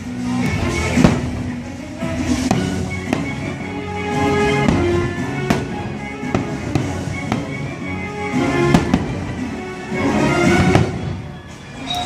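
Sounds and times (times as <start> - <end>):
fireworks bursting with bangs: 0.0 - 12.0
music soundtrack: 0.0 - 12.0.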